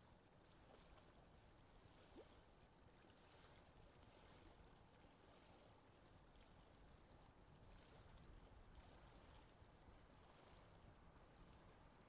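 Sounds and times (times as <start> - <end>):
small waves lapping at shore: 0.2 - 12.0.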